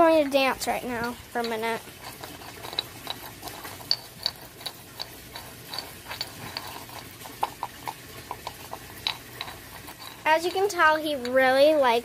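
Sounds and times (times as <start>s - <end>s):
dog licking and gnawing: 0.9s - 10.8s.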